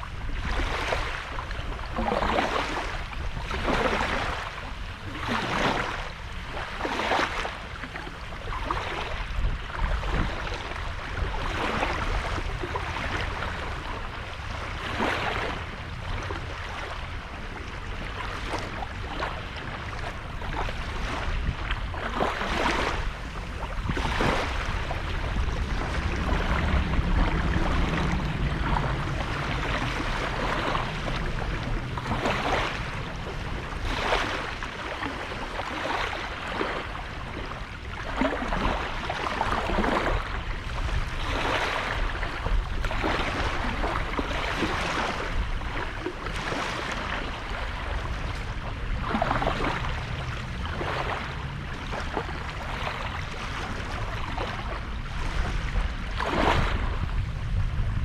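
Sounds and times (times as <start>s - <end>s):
sea waves breaking ashore: 0.0s - 58.0s
steady low rumble: 7.6s - 58.0s.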